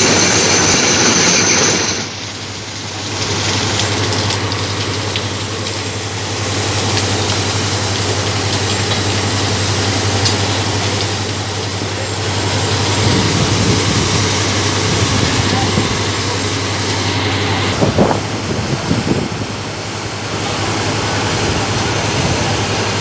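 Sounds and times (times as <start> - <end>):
diesel engine running: 0.0 - 23.0
loud hissing: 0.0 - 23.0.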